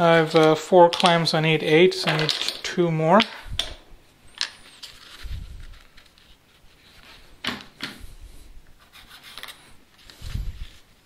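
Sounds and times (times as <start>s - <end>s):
wooden pads set on workbench: 0.0s - 11.0s.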